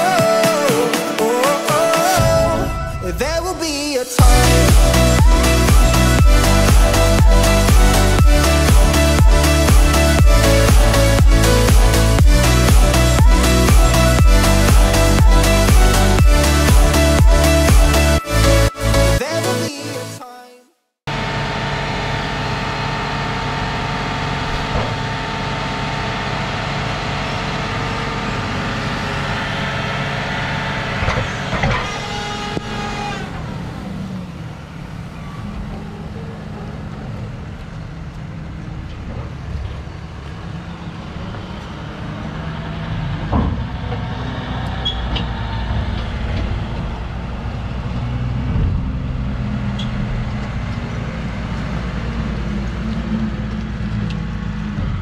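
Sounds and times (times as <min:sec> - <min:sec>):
tractor engine running under load: 0:04.2 - 0:18.2, 0:21.1 - 0:55.0.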